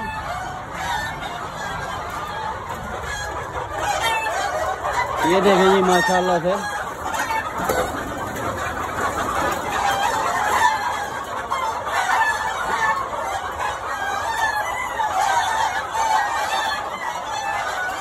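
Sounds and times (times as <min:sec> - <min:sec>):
chickens clucking: 0:00.0 - 0:18.0
roosters crowing: 0:00.0 - 0:18.0.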